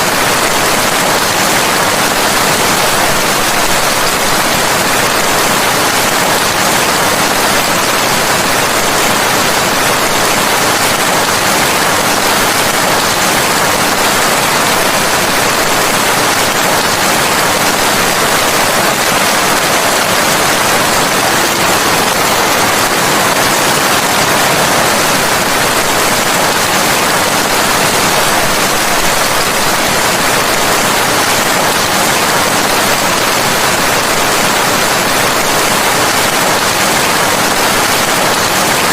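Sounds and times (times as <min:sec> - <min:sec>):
dense rain hiss: 0:00.0 - 0:38.9.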